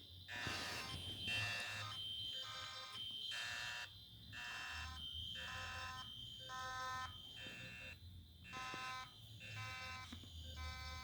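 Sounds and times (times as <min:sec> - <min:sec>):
fire alarm horns pulsing: 0:01.0 - 0:11.0.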